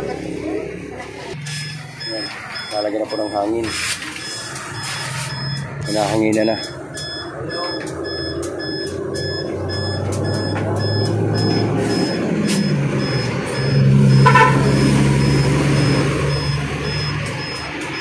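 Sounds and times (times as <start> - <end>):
vehicle engine running: 0.0 - 18.0
high-pitched beeps: 1.4 - 18.0.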